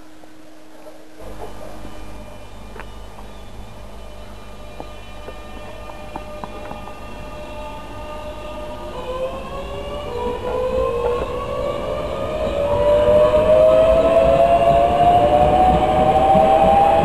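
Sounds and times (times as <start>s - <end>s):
train motors whining: 0.0s - 17.0s
train rumble: 0.0s - 17.0s.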